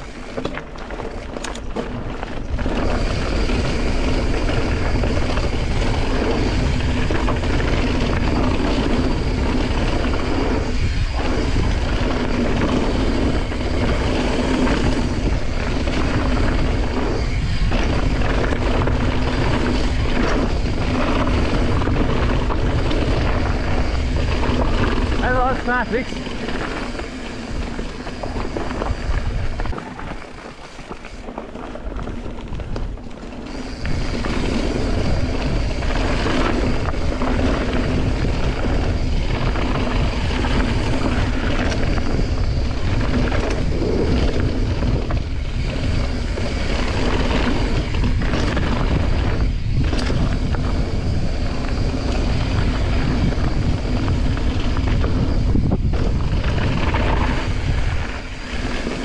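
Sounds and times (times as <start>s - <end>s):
tyres rumbling on gravel: 0.0s - 59.0s
wind on microphone: 0.0s - 59.0s.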